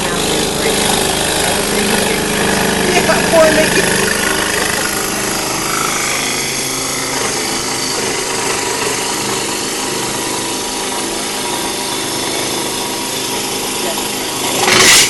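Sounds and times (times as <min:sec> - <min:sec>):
electric saw cutting wood: 0:00.0 - 0:15.0.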